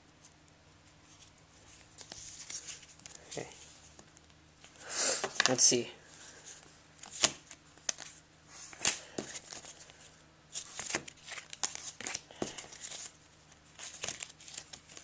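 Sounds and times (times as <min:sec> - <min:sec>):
cards rustling: 0:01.1 - 0:15.0.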